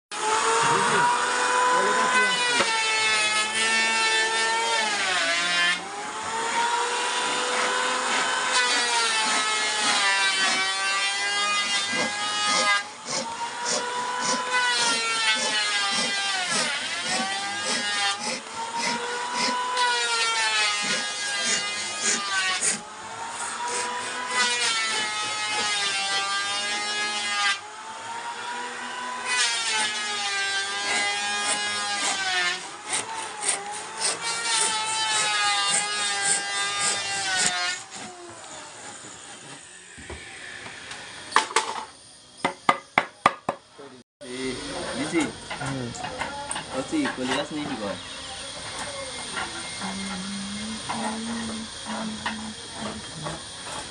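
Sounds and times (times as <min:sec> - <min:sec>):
power tool motor whining in wood: 0:00.1 - 0:42.5, 0:44.4 - 0:53.9.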